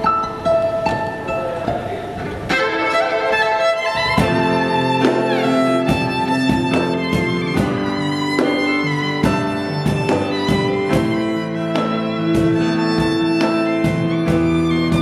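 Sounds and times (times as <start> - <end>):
violin playing: 0.0 - 15.0
backing track with beat and bass: 2.9 - 15.0.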